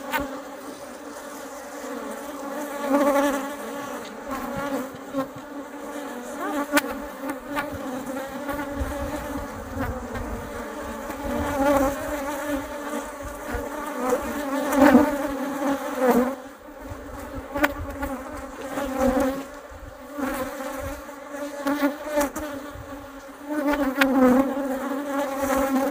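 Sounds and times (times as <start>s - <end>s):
bees buzzing: 0.0s - 25.9s.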